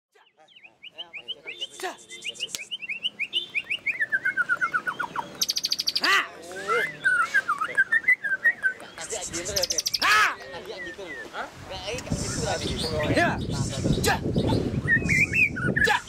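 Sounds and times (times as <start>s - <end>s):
birds singing whistled notes: 0.1s - 16.0s.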